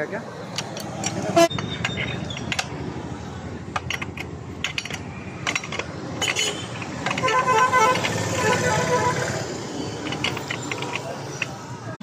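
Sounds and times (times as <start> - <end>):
background traffic rumble: 0.0 - 12.0
metal tools clicking and clinking: 0.5 - 12.0.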